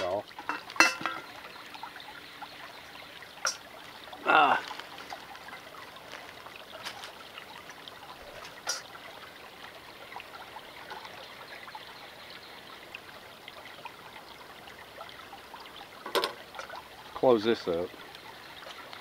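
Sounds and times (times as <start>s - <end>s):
creek water trickling: 0.0s - 19.0s.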